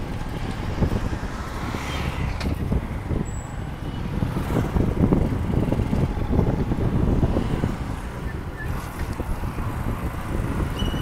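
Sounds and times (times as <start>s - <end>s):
motorcycle road and engine rumble: 0.0s - 11.0s
wind buffeting microphone: 0.0s - 11.0s.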